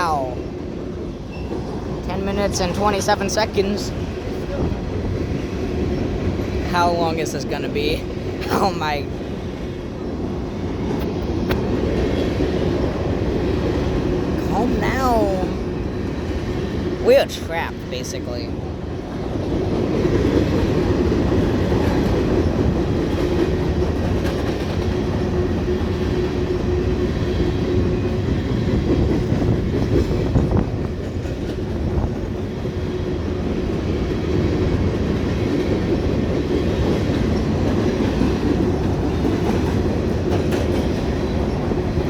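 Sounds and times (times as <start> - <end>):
train wheels rolling on rails: 0.1 - 42.0.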